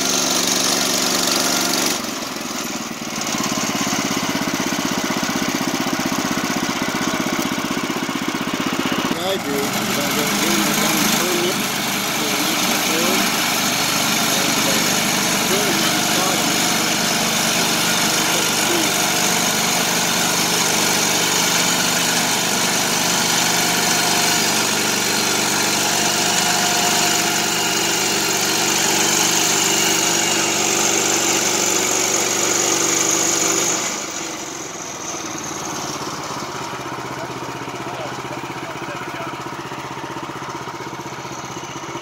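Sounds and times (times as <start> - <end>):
small gas engine running: 0.0 - 42.0.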